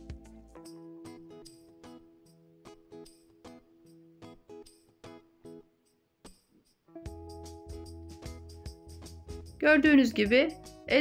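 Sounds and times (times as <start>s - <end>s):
plucked instrumental music: 0.0s - 5.7s, 6.9s - 11.0s.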